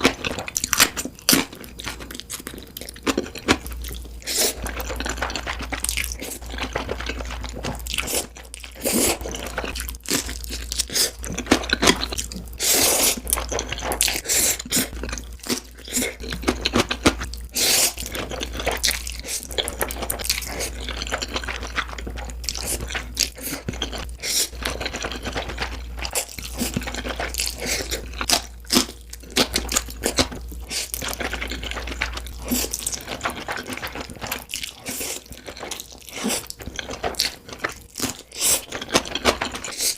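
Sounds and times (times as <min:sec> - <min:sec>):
chewing and crunching: 0:00.0 - 0:39.9
low steady hum: 0:00.0 - 0:39.9.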